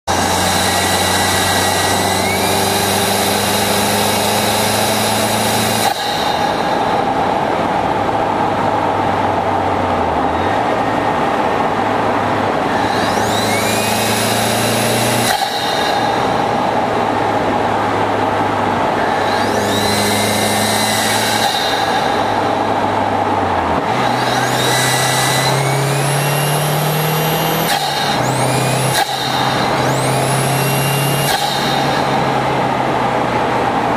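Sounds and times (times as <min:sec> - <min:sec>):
car engine running: 0:00.0 - 0:33.9
high whine rising in pitch: 0:00.0 - 0:33.9
road and wind noise: 0:00.0 - 0:33.9.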